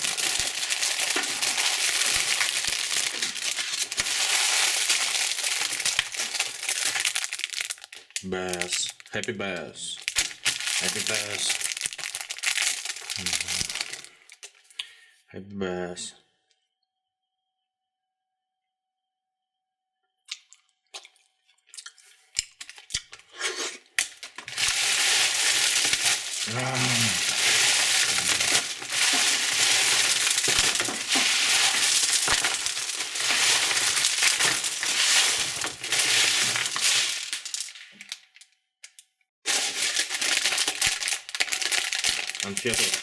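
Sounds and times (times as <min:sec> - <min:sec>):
plastic wrapper crinkling: 0:00.0 - 0:09.2, 0:10.0 - 0:14.8, 0:21.8 - 0:43.0.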